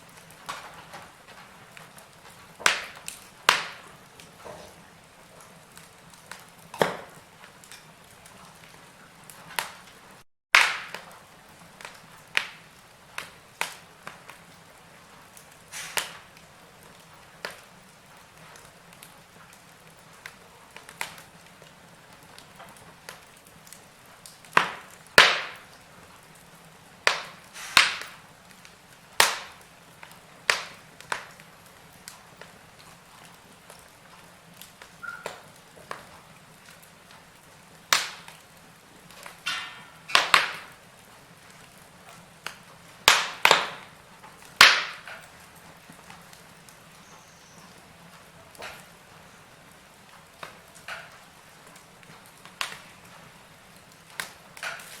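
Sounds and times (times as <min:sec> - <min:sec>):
faint steady hiss: 0:00.0 - 0:55.0
wood fire crackling and popping: 0:00.0 - 0:55.0.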